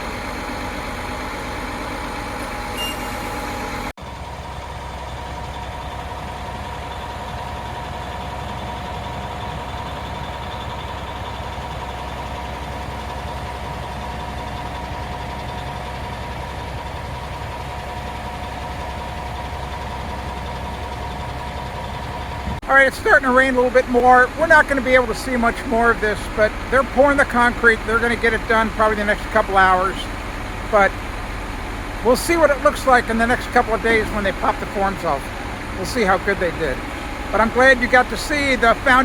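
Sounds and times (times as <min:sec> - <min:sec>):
diesel trucks rumbling with whine: 0:00.0 - 0:39.0.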